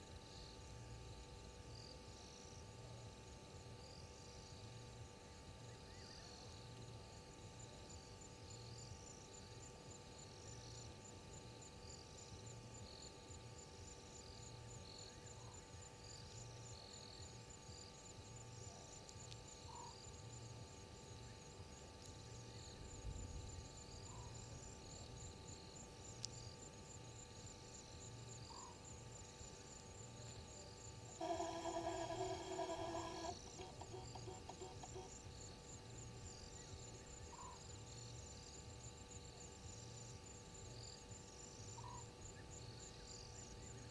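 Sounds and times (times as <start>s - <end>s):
electrical hum: 0.0s - 43.9s
insects chirping: 0.0s - 43.9s
soft low throb: 0.0s - 43.9s.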